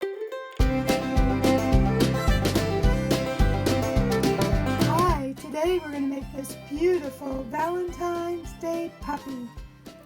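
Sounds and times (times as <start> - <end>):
plucked strings music: 0.0 - 10.0
bass beat: 0.6 - 10.0.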